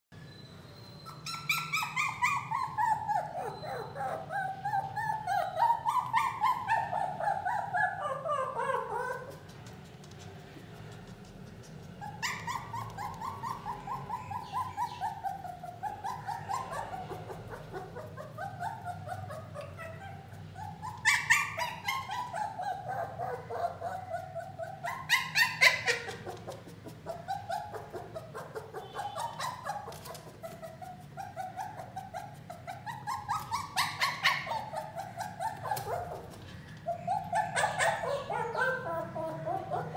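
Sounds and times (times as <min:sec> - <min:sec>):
puppy whining and yelping: 0:00.8 - 0:39.9.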